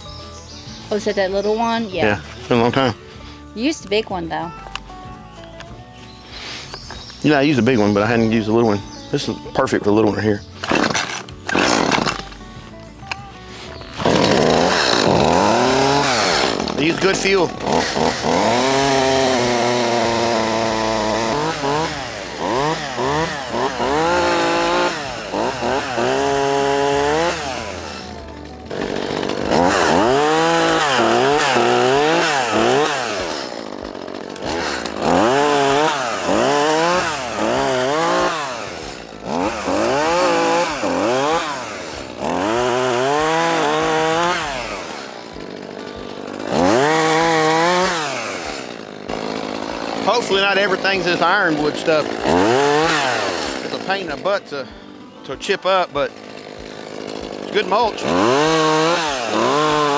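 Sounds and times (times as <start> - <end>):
chainsaw revving and cutting: 9.9 - 12.5, 13.2 - 59.9.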